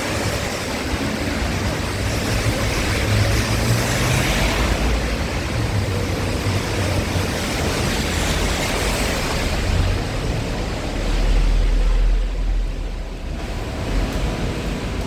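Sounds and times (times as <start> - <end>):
rain falling on street: 0.0 - 15.0.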